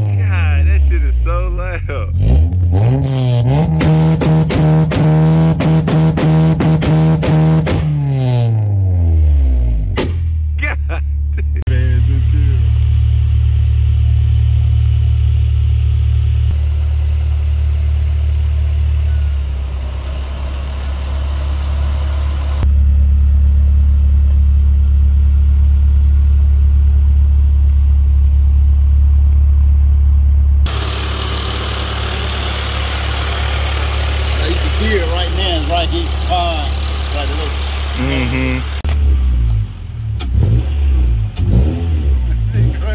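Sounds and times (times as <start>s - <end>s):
car engine idling: 0.0s - 2.4s, 10.6s - 42.9s.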